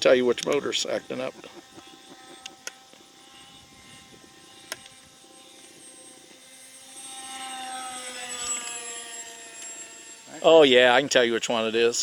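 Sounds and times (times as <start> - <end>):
rc plane electric motors whining: 0.0 - 12.0.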